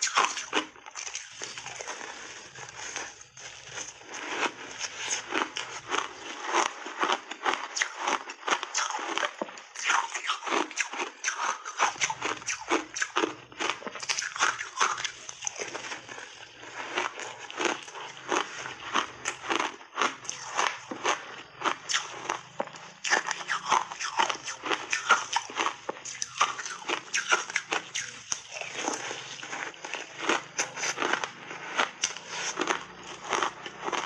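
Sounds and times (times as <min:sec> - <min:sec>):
ice being chewed and crunched: 0:00.0 - 0:34.0.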